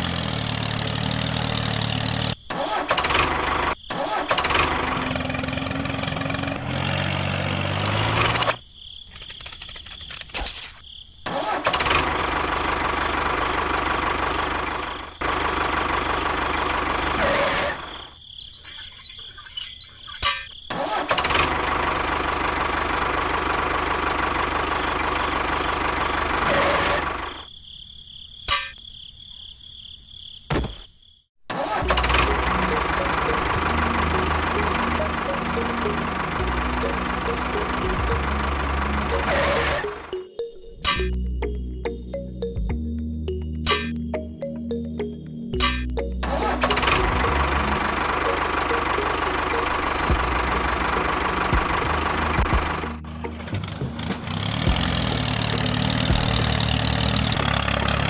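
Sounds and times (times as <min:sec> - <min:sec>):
tractor engine running: 0:00.0 - 0:10.4, 0:11.3 - 0:27.5, 0:31.5 - 0:58.0.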